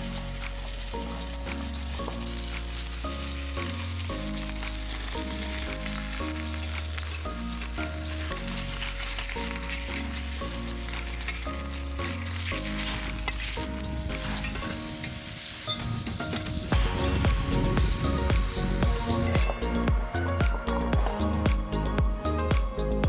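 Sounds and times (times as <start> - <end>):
meat sizzling in a pan: 0.0 - 19.6
background music with bass: 0.0 - 23.0.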